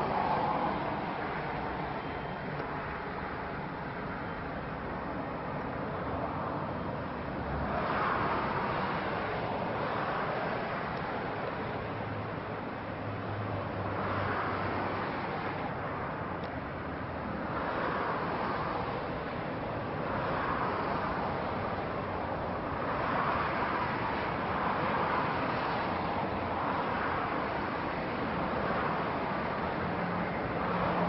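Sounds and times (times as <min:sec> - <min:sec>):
distant vehicle noise: 0:00.0 - 0:31.0.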